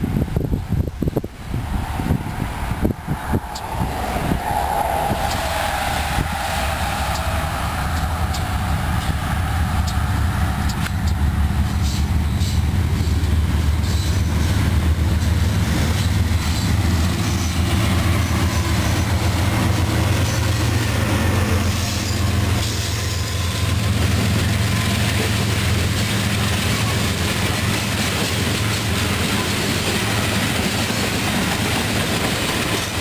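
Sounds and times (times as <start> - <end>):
diesel locomotive engines droning: 0.0 - 33.0.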